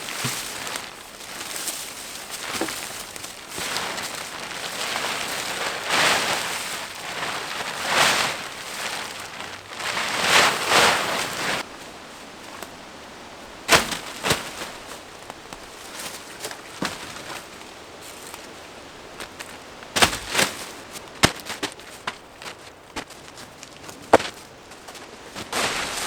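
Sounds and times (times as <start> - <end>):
plastic tarp rustling: 0.0 - 26.0.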